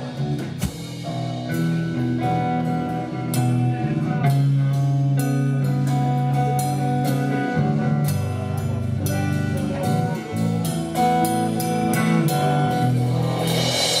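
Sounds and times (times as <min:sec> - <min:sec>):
drum kit beat: 0:00.0 - 0:14.0
sustained guitar chords: 0:00.0 - 0:14.0.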